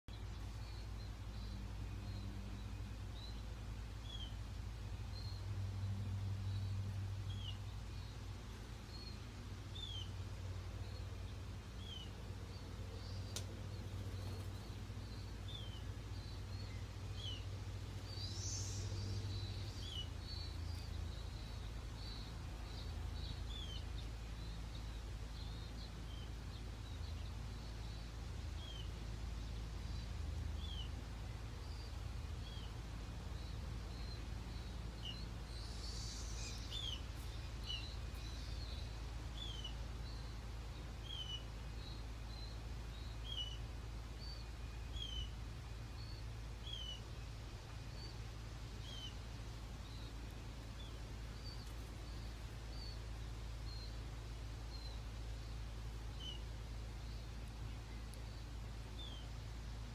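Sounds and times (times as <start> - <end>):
faint bird chirps: 0.1 - 59.9
steady low rumble: 0.1 - 59.9.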